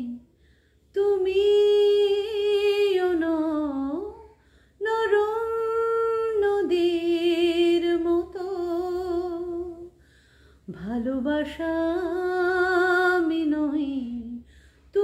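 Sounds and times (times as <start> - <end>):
woman singing unaccompanied: 0.0 - 0.3, 0.9 - 10.0, 10.7 - 15.0.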